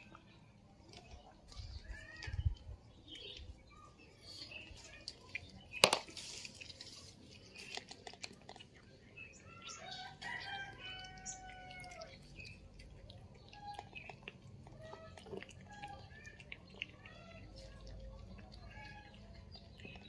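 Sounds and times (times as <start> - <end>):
cats chewing food: 0.0 - 20.0.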